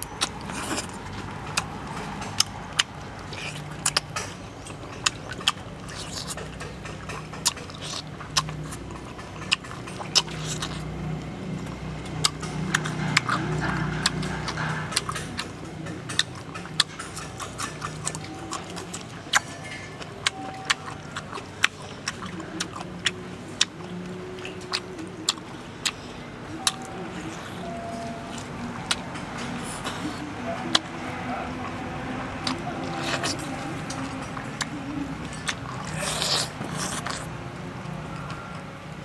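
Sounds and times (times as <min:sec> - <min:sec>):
wet chewing and lip smacks: 0:00.0 - 0:38.7
low steady hum: 0:00.0 - 0:39.0.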